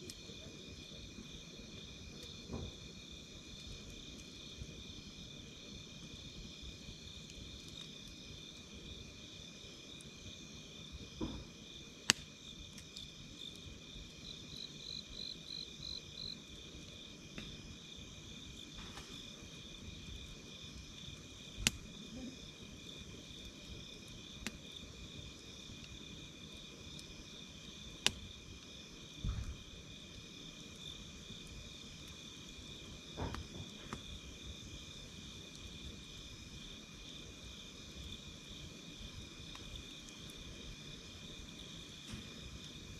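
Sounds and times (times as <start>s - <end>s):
campfire popping: 0.0s - 42.9s
night insects chirring: 0.0s - 42.9s
soft low thuds from fire: 0.0s - 42.9s.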